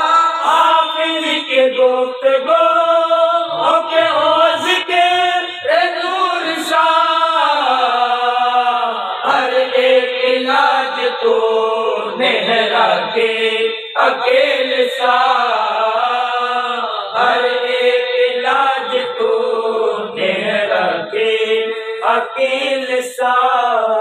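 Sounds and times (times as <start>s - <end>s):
men chanting unaccompanied: 0.0s - 24.0s.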